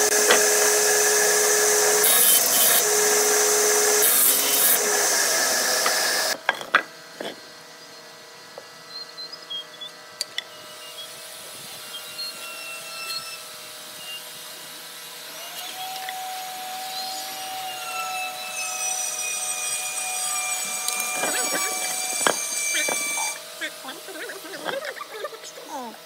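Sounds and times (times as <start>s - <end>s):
woodworking power tool whining: 0.0s - 6.4s, 10.3s - 26.0s.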